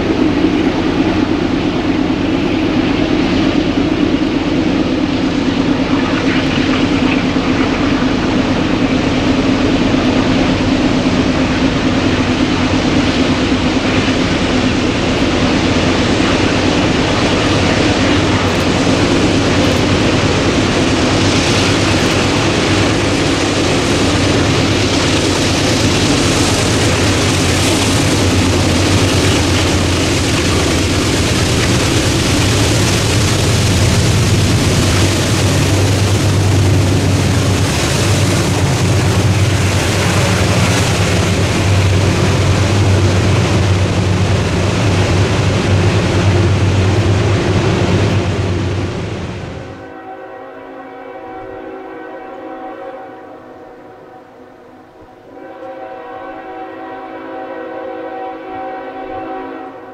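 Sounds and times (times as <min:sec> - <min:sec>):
freight cars rolling over rails: 0:00.0 - 0:49.8
locomotive engines droning: 0:00.0 - 0:59.9.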